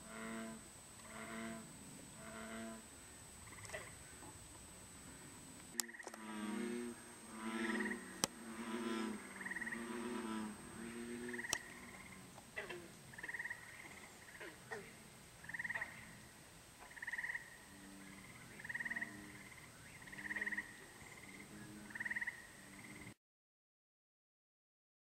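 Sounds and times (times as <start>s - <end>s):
frogs trilling: 0.0s - 23.1s
frogs croaking: 0.0s - 23.2s.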